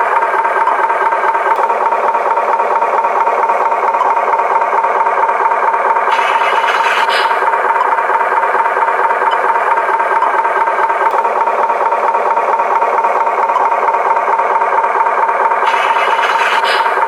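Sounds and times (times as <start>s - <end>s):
toy truck motor buzzing: 0.0s - 17.0s.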